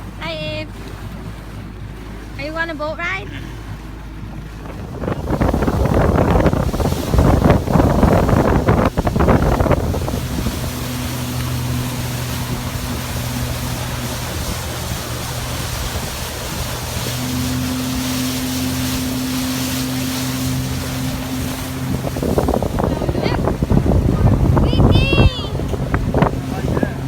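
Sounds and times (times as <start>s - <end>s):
motorboat engine hum: 0.0s - 27.0s
water wash: 0.0s - 27.0s
wind buffeting microphone: 0.0s - 27.0s.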